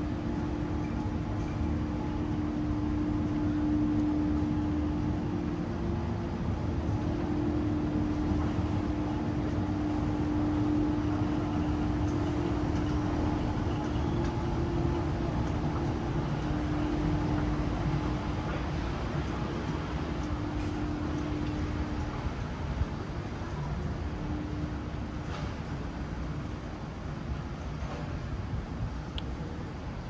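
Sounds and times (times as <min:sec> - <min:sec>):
constant hum: 0:00.0 - 0:30.0
low city rumble: 0:00.0 - 0:30.0.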